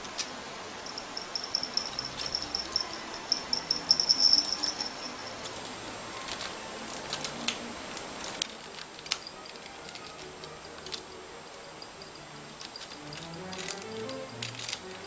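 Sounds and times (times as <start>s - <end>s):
budgie clicking and tapping toys: 0.0s - 15.0s.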